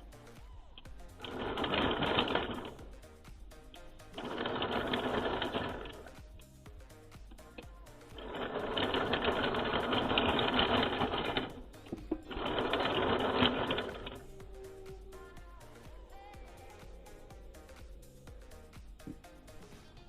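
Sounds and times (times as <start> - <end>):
toy electric motor and gears whirring: 0.0 - 6.6, 7.3 - 19.7
background music: 0.0 - 20.0.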